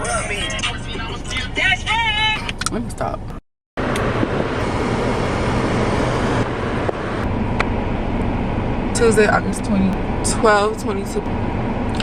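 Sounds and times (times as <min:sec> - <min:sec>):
road vehicle noise: 0:00.0 - 0:12.0.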